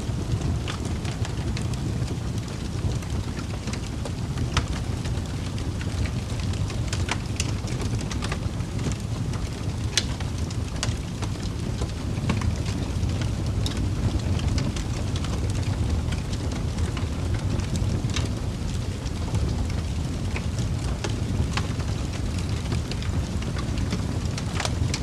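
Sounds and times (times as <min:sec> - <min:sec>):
fire rumbling: 0:00.0 - 0:25.0
wood crackling and popping: 0:00.0 - 0:25.0.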